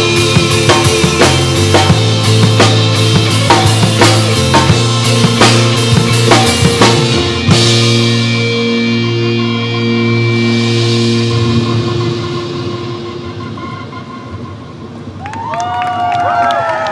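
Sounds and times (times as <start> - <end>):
drum kit hits: 0.0 - 13.6
backing track chord: 0.0 - 15.0.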